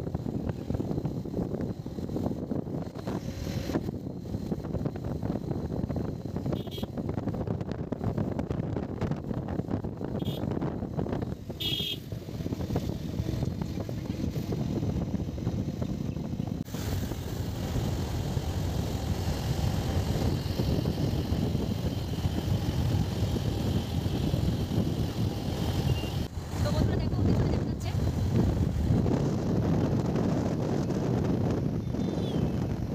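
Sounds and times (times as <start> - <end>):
vehicle rumbling on road: 0.0 - 32.9
wind on microphone: 0.0 - 32.9.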